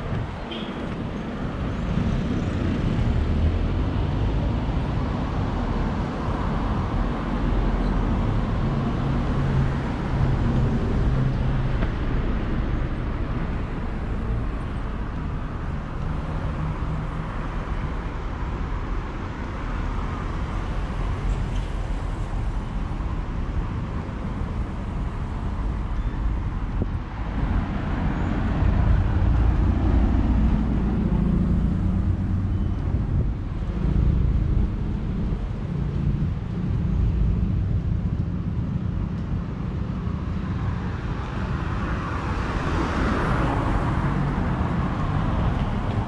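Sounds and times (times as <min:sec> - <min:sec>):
vehicles passing: 0:00.0 - 0:46.0.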